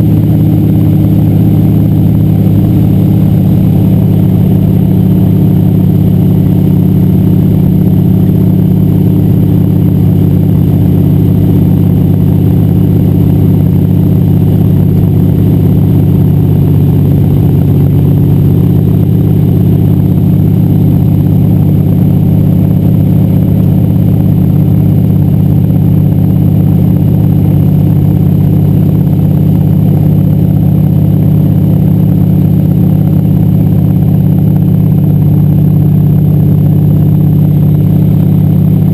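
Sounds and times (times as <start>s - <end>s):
floatplane engine and propeller: 0.0s - 38.9s.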